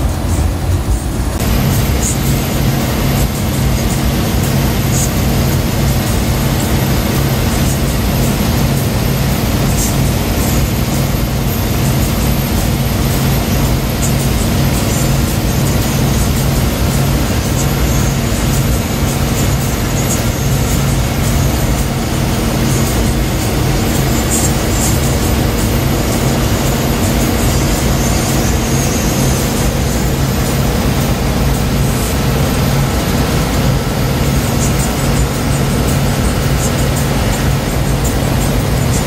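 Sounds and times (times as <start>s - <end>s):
bus diesel engine droning: 0.0s - 39.0s.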